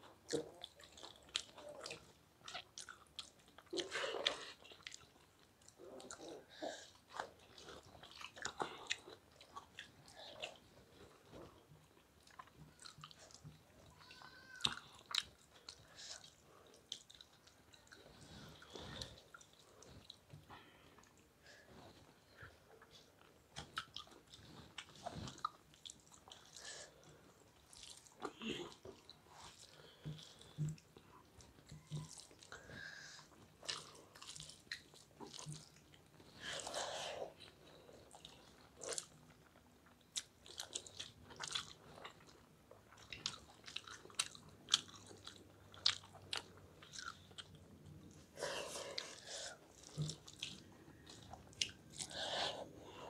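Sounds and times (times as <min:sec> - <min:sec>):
wet chewing sounds: 0:00.0 - 0:53.0.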